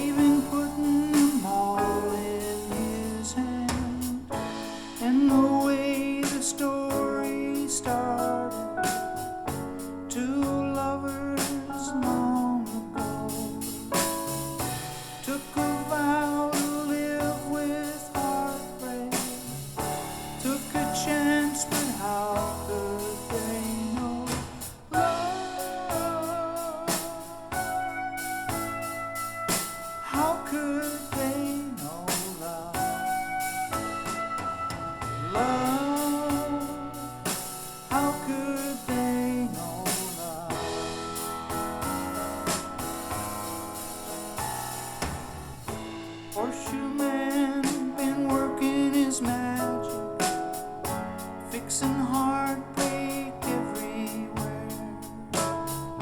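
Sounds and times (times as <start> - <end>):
song over loudspeakers: 0.0 - 56.0.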